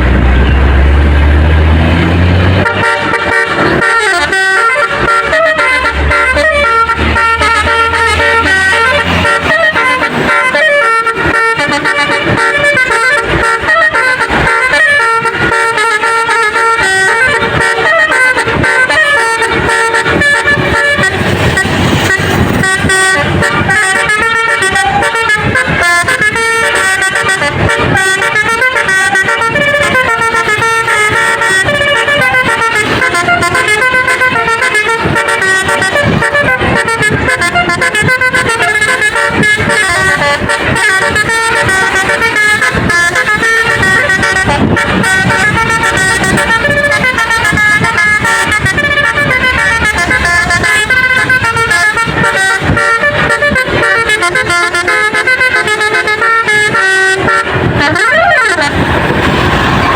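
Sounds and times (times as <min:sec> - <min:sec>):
musical air horn playing a tune: 0:00.0 - 0:59.9.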